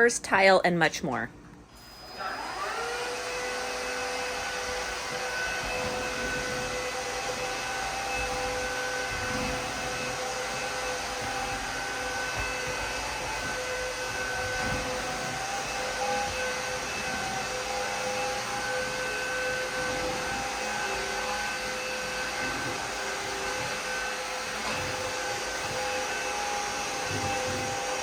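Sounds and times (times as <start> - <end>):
vacuum cleaner running: 1.6 - 28.0.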